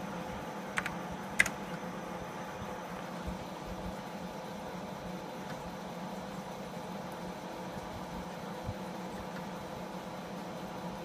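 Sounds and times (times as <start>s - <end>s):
computer fan and electrical hum: 0.0s - 11.0s.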